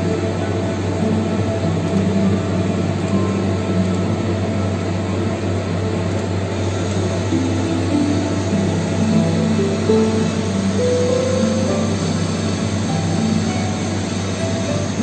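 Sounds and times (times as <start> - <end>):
low hum and rushing noise: 0.0 - 15.0
soft background music: 0.0 - 15.0.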